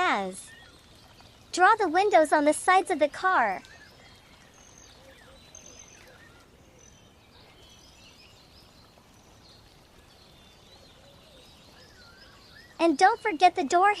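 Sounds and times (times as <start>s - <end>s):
faint birds chirping: 0.0s - 14.0s
low steady hiss: 0.0s - 14.0s.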